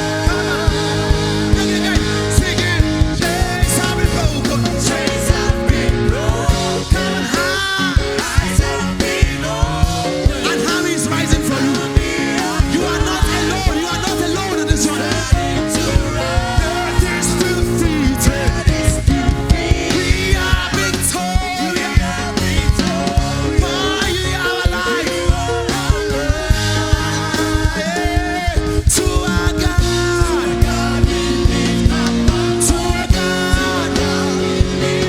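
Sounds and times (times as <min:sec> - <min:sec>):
drum hits: 0:00.0 - 0:35.0
live band playing gospel music: 0:00.0 - 0:35.0
person singing: 0:00.0 - 0:35.0.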